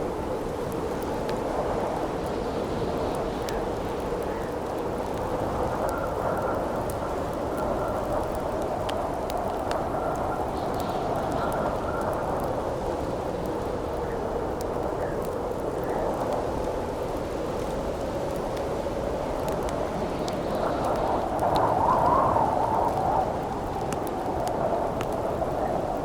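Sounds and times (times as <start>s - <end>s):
campfire crackling: 0.0s - 26.0s
howling wind: 0.0s - 26.0s.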